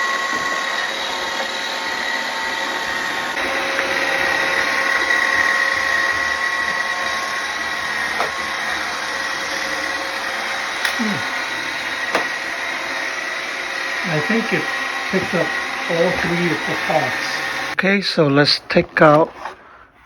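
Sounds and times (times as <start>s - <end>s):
robot vacuum motor whine: 0.0s - 17.8s.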